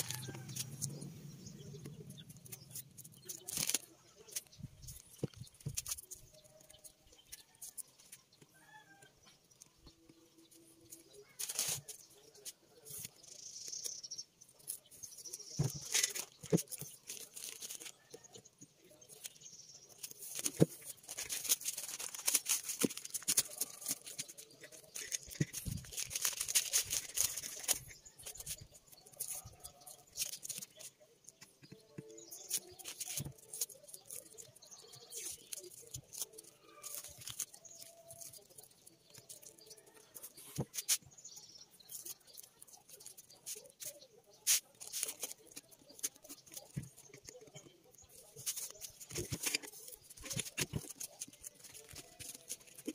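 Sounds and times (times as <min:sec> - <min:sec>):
paper crinkling and tearing: 0:00.0 - 0:01.1, 0:01.8 - 0:08.2, 0:10.5 - 0:13.4, 0:14.5 - 0:31.0, 0:31.9 - 0:41.1, 0:41.7 - 0:52.9
tape crackling: 0:00.0 - 0:08.2, 0:09.5 - 0:52.9.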